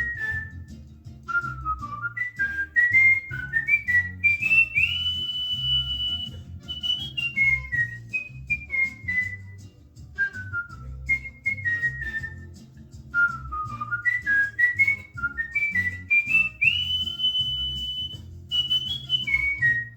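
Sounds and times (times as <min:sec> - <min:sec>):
cockatiel whistling a tune: 0:00.0 - 0:19.9.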